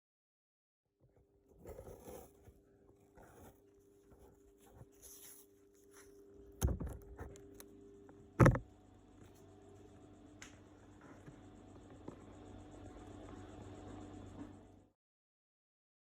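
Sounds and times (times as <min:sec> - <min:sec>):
steady low hum: 0:01.2 - 0:15.0.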